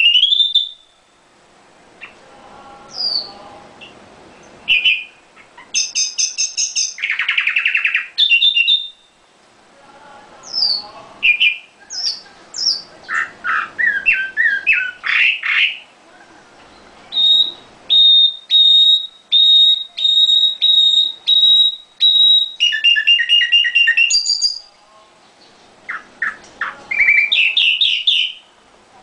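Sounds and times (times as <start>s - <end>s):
bird singing trills and whistles: 0.0s - 1.0s, 2.9s - 9.2s, 10.5s - 15.9s, 16.7s - 24.8s, 25.4s - 28.5s.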